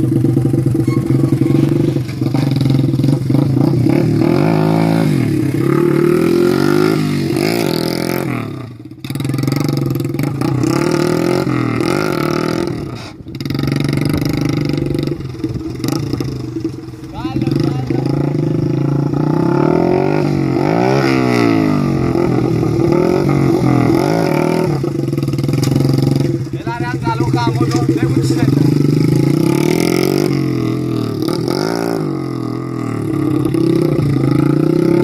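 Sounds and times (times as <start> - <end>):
small motorcycle engine revving: 0.0 - 35.0.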